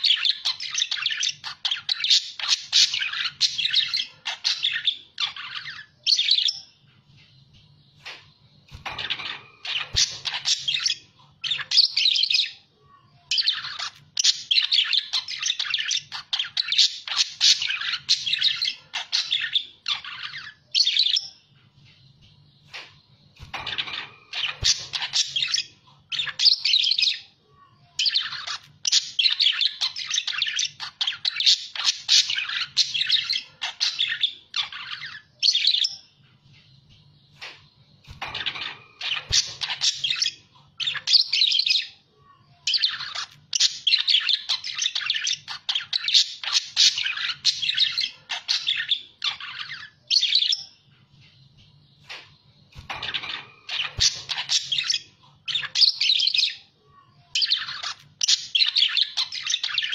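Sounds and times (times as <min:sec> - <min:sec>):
budgerigars chattering and warbling: 0:00.0 - 0:06.6, 0:08.0 - 0:12.6, 0:13.4 - 0:21.3, 0:22.7 - 0:27.3, 0:28.0 - 0:36.0, 0:37.4 - 0:42.0, 0:42.7 - 0:50.7, 0:52.0 - 0:56.7, 0:57.4 - 0:59.9.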